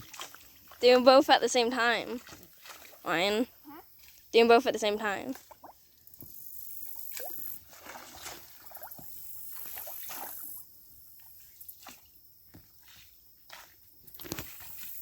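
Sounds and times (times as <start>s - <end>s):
paddles pulling through water: 0.0s - 15.0s
water splashes and drips: 0.0s - 15.0s.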